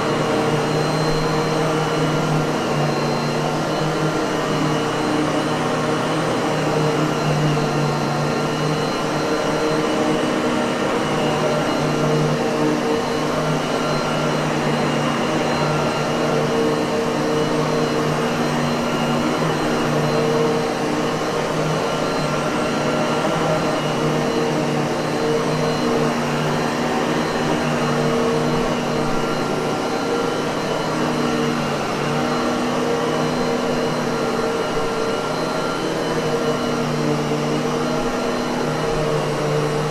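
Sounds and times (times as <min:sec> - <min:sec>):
vacuum cleaner motor humming: 0:00.0 - 0:39.9.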